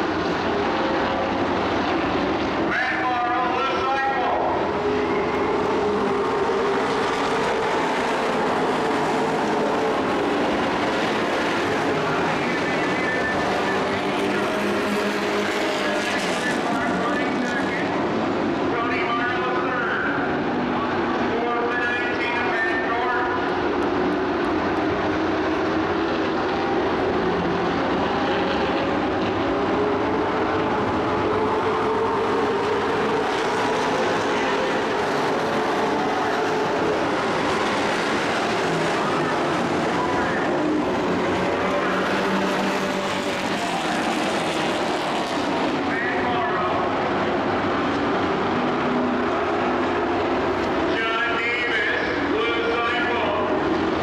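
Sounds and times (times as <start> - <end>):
race truck engines: 0.0 - 54.0.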